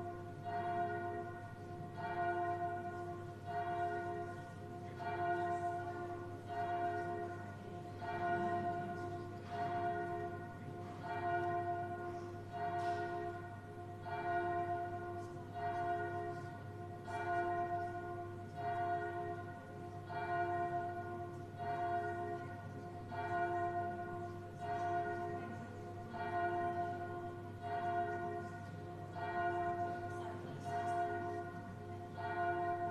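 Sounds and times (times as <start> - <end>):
church bell ringing: 0.0 - 32.9.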